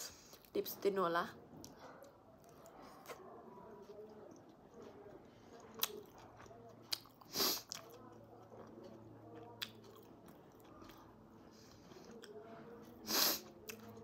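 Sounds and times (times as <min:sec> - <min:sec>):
chewing wet mouth sounds: 0:02.4 - 0:14.0.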